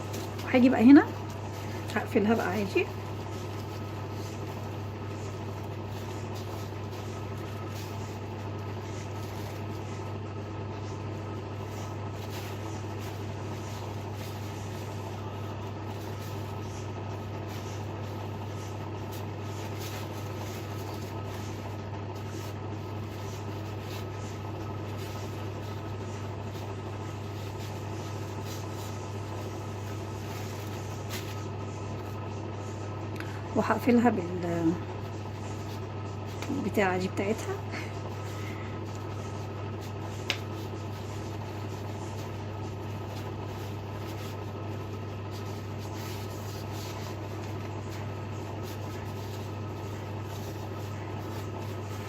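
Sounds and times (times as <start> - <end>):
faint handling noises: 0.0 - 52.0
steady low hum: 0.0 - 52.0.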